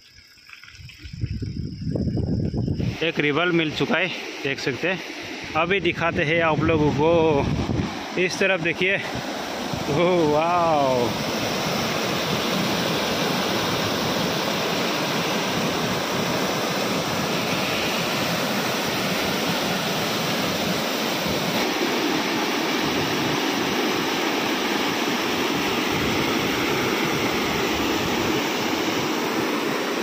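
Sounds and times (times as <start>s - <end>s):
river rushing: 3.2s - 30.0s.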